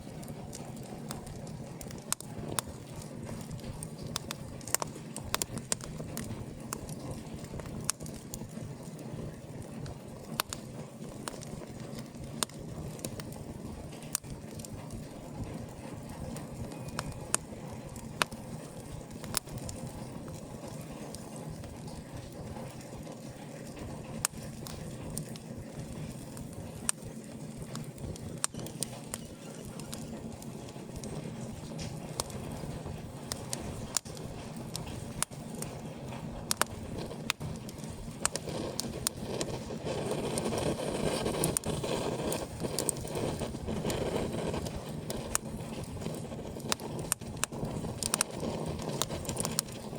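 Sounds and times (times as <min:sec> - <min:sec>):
low rush of burning: 0:00.0 - 0:49.9
wood fire popping: 0:00.0 - 0:49.9.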